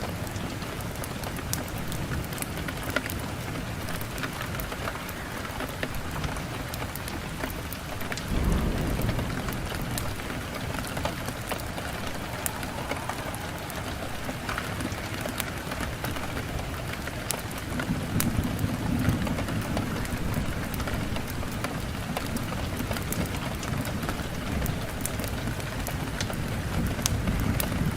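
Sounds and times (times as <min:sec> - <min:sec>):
wood fire crackling and popping: 0:00.0 - 0:27.8
low rumble of flames: 0:00.0 - 0:27.9.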